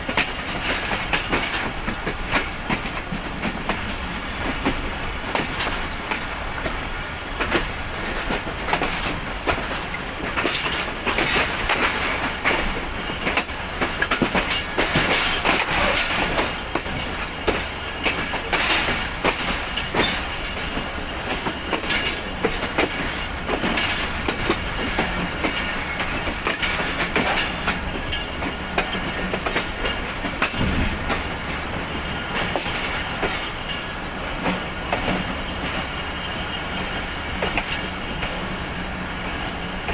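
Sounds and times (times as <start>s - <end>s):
carriages rumbling: 0.0s - 39.9s
train wheels clattering over joints: 0.0s - 39.9s.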